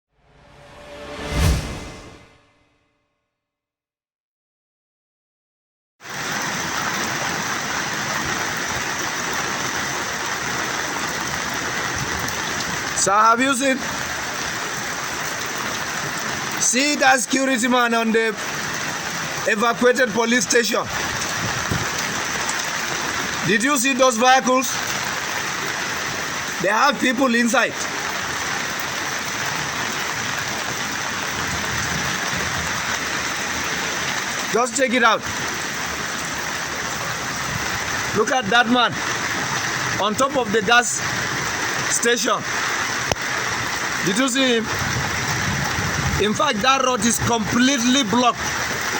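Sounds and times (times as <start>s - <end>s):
rushing water hiss: 6.0s - 48.9s.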